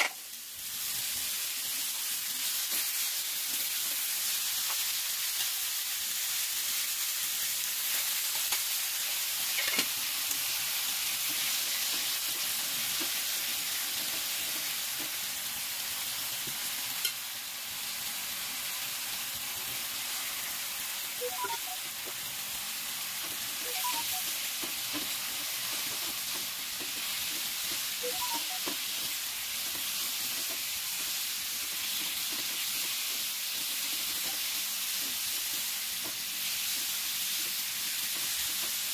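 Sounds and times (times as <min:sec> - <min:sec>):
vegetables sizzling in a pan: 0:00.0 - 0:38.9.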